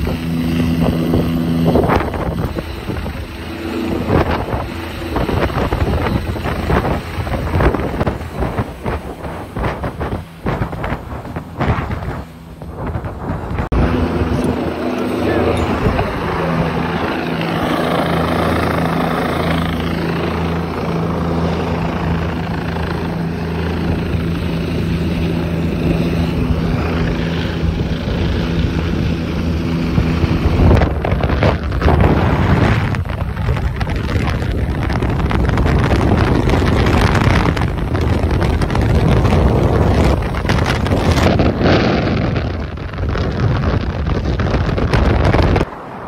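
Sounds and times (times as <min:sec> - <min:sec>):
helicopter rotor and engine drone: 0:00.0 - 0:46.0
wind buffeting microphone: 0:00.0 - 0:46.0.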